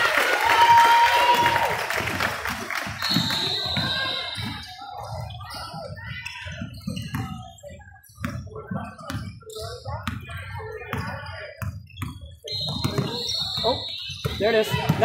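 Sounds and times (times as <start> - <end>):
spectators chatting: 1.3 - 15.0.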